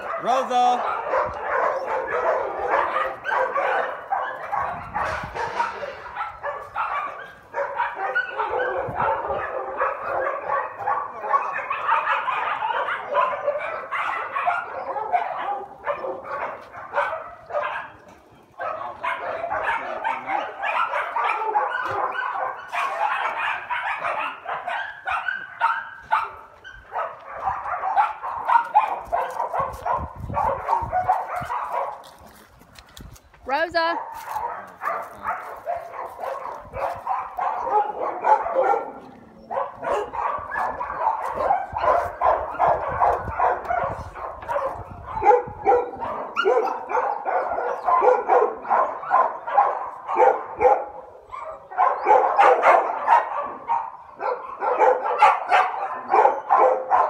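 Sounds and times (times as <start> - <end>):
dogs barking and yipping: 0.0 - 32.6, 33.6 - 57.0.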